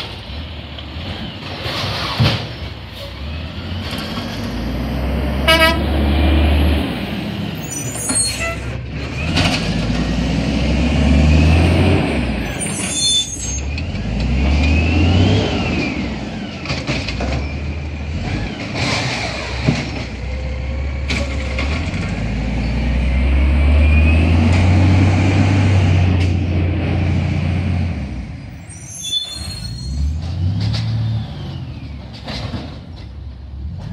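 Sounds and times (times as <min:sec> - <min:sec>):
garbage truck engine revving: 0:00.3 - 0:28.4.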